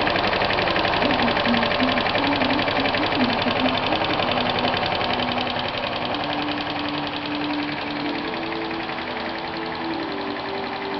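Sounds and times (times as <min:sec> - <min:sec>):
moped engine idling: 0:00.0 - 0:10.9.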